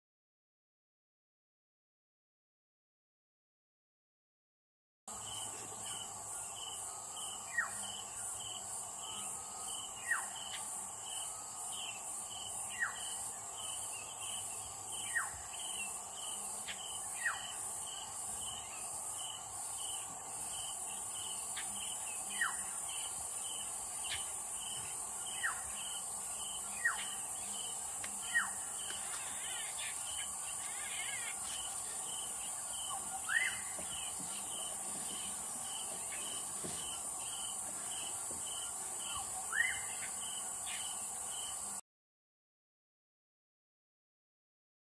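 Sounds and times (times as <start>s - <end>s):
insects chirping: 5.1s - 41.8s.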